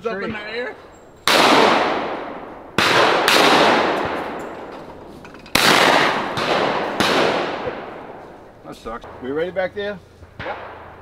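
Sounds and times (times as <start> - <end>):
shotgun shots: 1.2 - 9.3, 10.2 - 11.0.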